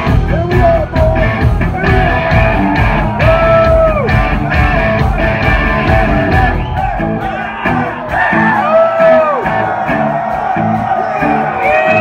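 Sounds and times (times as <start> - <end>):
hard rock band playing loud: 0.0 - 12.0.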